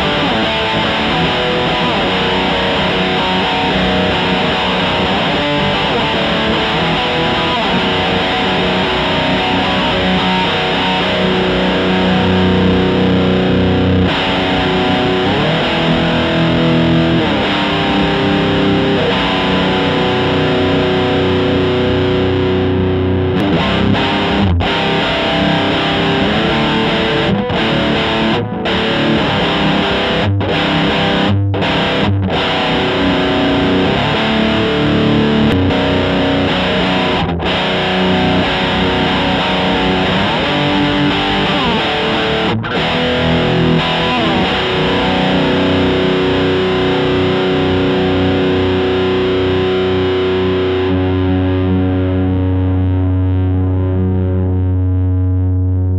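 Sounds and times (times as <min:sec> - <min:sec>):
distorted electric guitar chords: 0:00.0 - 0:55.9.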